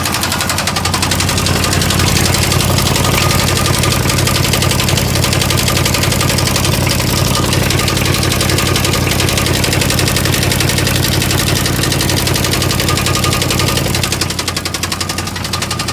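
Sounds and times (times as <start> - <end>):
car engine idling with knock: 0.0 - 15.9.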